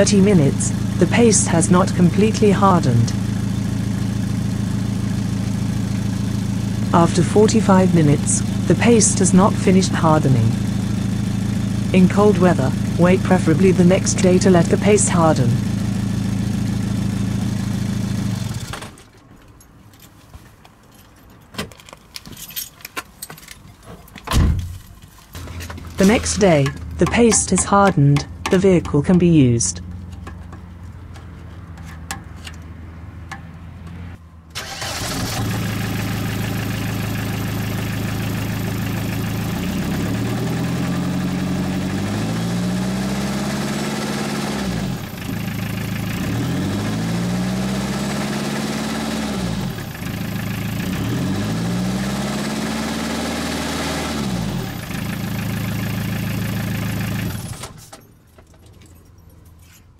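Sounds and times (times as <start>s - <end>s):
car engine idling and revving: 0.0s - 19.2s, 24.6s - 57.9s.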